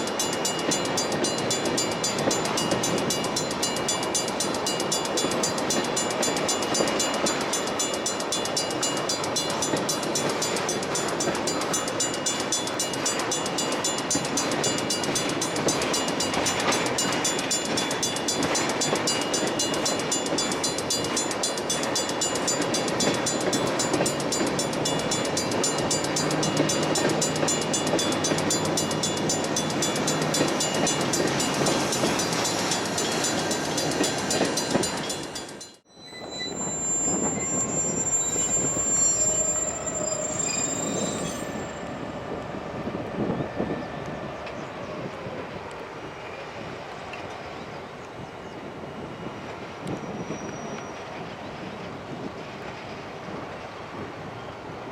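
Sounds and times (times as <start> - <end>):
high steady train squeal: 0.0 - 54.9
train rumbling past: 0.0 - 54.9.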